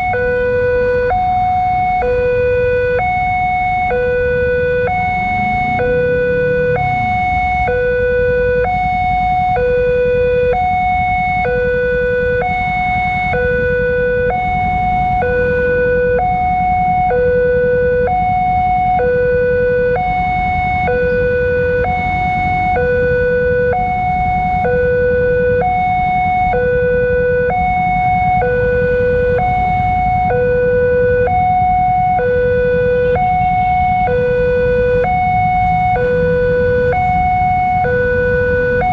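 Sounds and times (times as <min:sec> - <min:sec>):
two-tone level crossing alarm: 0:00.0 - 0:38.9.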